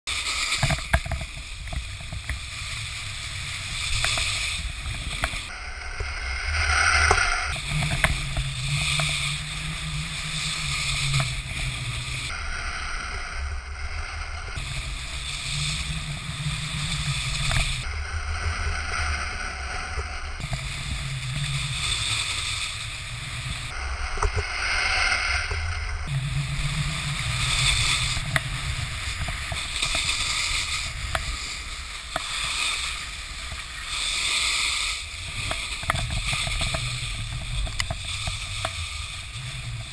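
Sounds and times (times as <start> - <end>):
snowboards scraping over snow: 0.1 - 12.6, 13.3 - 39.9
wind rushing over microphone: 0.1 - 39.9.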